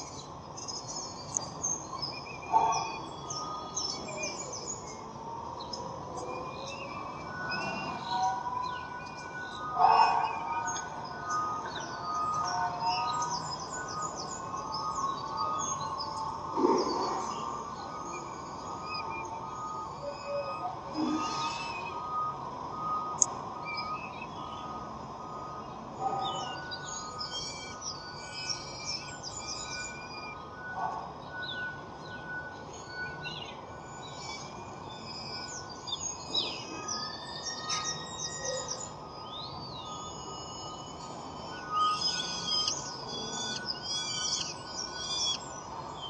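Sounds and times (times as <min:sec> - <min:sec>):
birds chirping and singing: 0:00.0 - 0:46.0.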